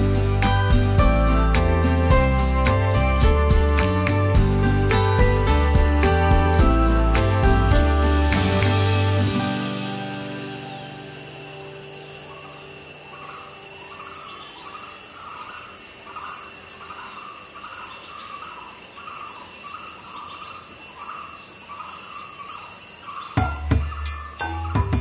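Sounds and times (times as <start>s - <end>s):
high-pitched insect drone: 4.3s - 24.8s.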